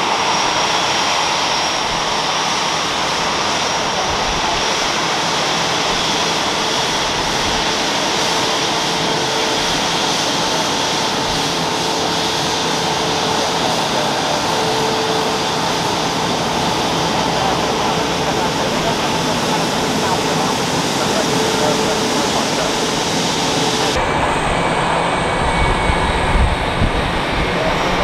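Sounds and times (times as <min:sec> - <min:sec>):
jet engines at taxi power: 0:00.0 - 0:28.0.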